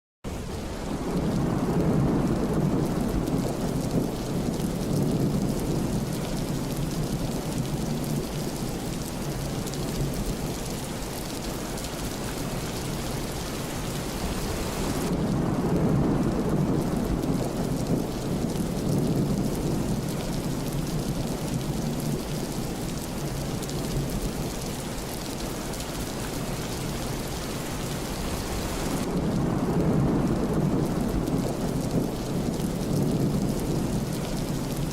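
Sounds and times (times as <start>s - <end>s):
steady rain: 0.2s - 34.9s
rolling thunder: 0.4s - 28.0s, 28.6s - 34.9s.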